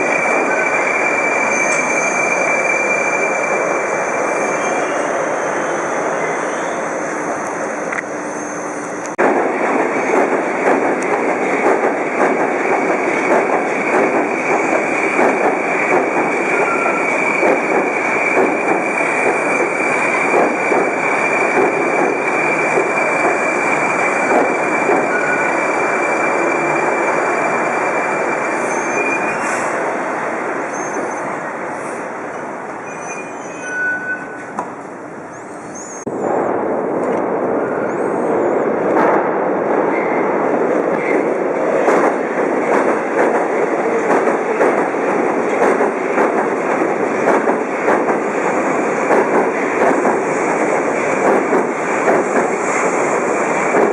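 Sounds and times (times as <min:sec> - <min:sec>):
metro train rumbling on rails: 0:00.0 - 0:53.9.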